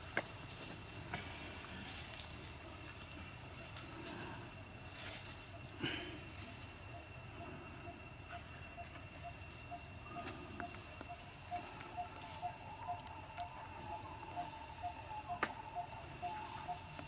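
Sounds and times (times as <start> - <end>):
soft regular pulsing: 0.0 - 17.0
steady high-pitched tones: 0.0 - 17.0
steady hum: 0.0 - 17.0.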